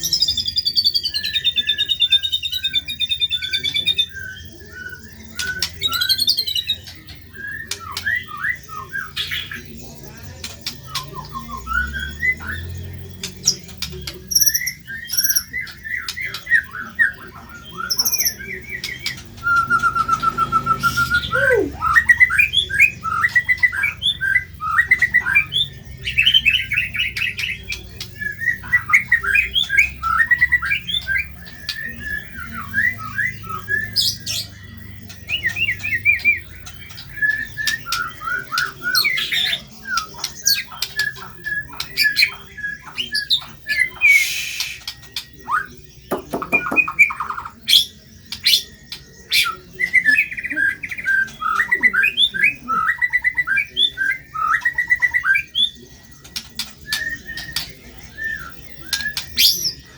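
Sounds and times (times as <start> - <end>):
bird singing chirps and trills: 0.0 - 59.9.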